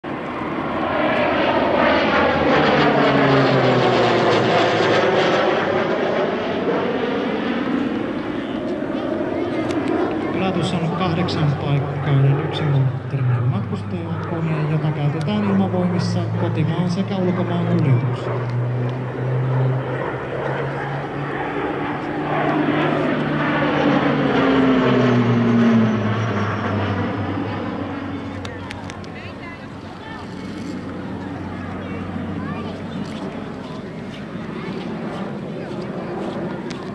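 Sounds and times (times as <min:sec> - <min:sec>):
turboprop plane flying past: 0:00.0 - 0:36.9.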